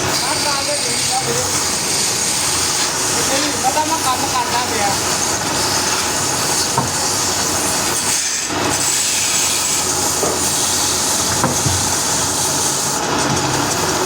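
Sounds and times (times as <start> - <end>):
woodworking machine cutting wood: 0.0 - 14.0.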